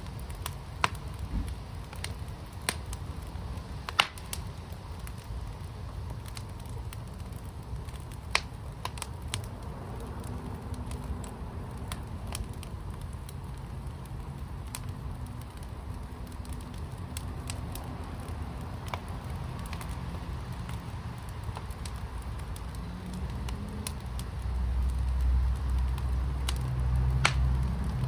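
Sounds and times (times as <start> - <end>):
low fire rumble: 0.0 - 28.0
wood fire crackling and popping: 0.0 - 28.0.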